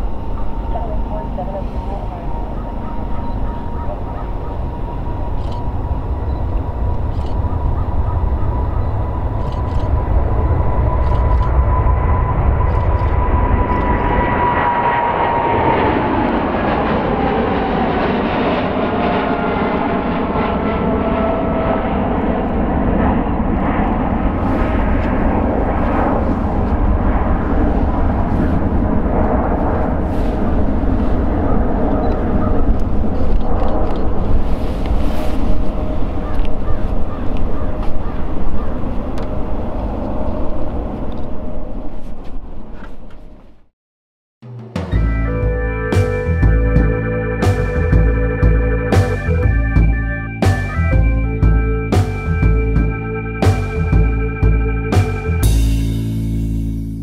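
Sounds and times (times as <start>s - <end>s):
deep jet rumble: 0.0s - 42.7s, 44.7s - 57.0s
jet engine fan whine: 0.0s - 42.8s, 44.8s - 57.0s.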